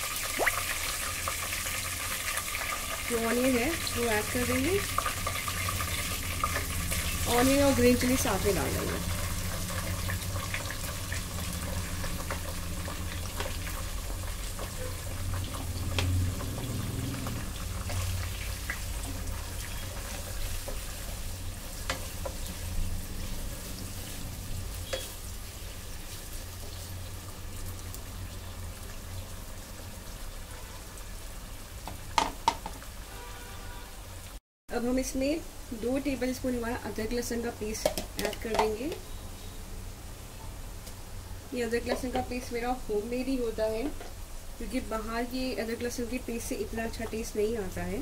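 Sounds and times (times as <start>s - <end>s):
onions sizzling in hot oil: 0.0s - 48.0s.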